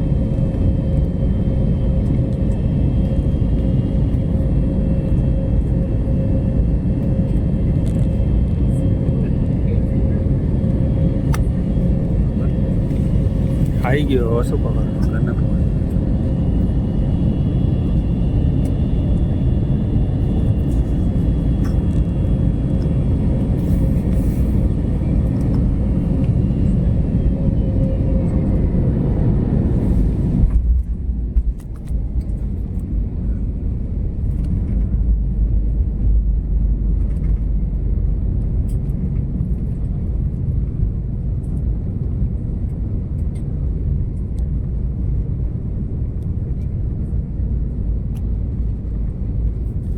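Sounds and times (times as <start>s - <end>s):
vehicle interior rumble: 0.1s - 49.9s.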